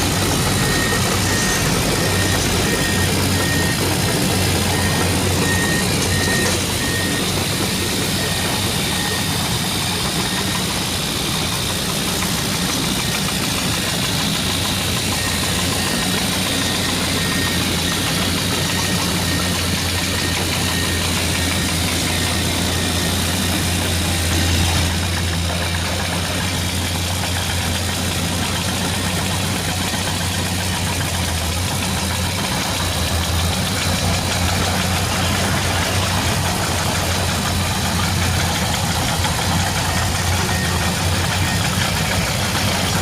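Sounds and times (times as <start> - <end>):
faint high beeping: 0.0 - 43.0
toy excavator motor humming: 0.0 - 43.0.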